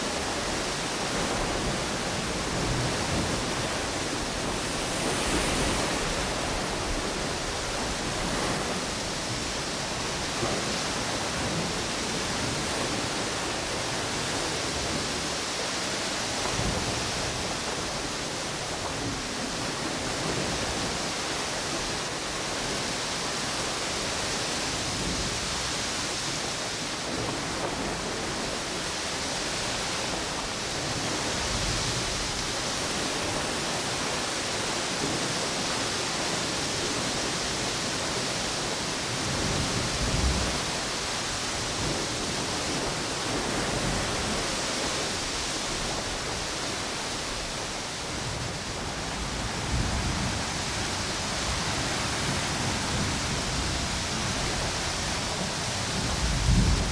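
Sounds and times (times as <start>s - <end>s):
ocean waves on a beach: 0.0s - 56.9s
strong wind: 0.0s - 56.9s.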